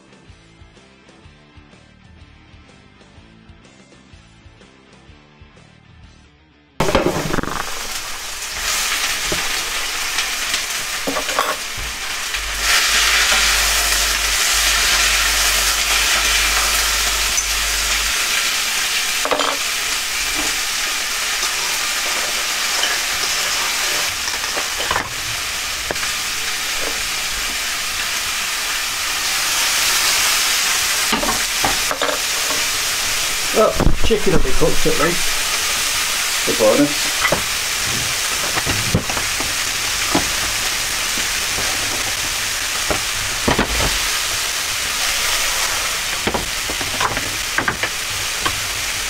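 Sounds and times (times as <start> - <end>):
food sizzling in a frying pan: 6.8 - 49.0.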